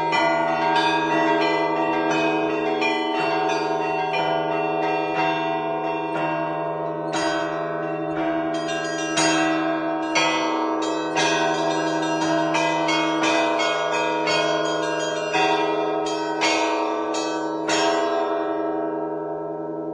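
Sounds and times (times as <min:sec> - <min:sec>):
large bells ringing: 0:00.0 - 0:19.9.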